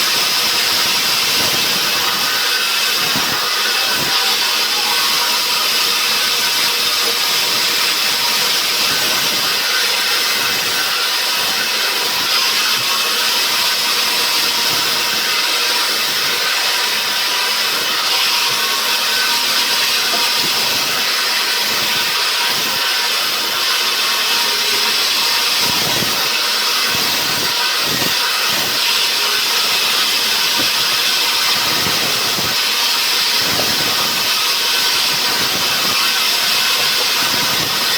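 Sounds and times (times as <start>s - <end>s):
machinery running: 0.0s - 37.9s
saw cutting through log: 0.0s - 37.9s.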